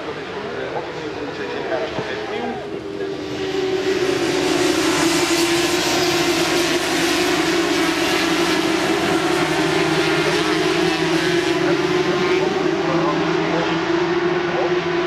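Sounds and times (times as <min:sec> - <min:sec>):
motorcycle engines at high revs: 0:00.0 - 0:15.0.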